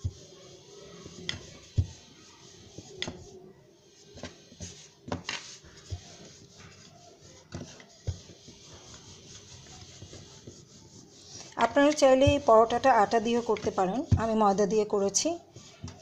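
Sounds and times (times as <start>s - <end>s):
rolling pin rolling dough: 0.0s - 16.0s.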